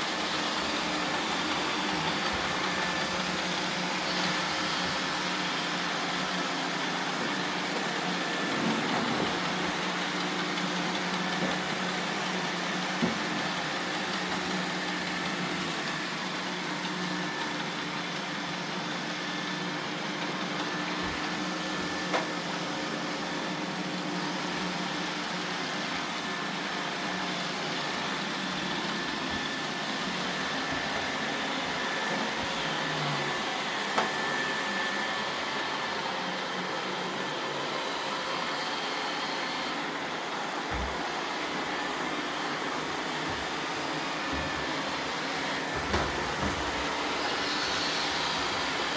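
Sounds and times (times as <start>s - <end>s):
robot vacuum running: 0.0s - 48.9s.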